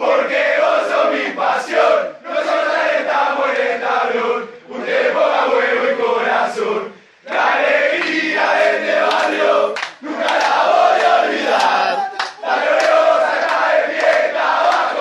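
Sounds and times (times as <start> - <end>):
group chanting in unison: 0.0 - 15.0.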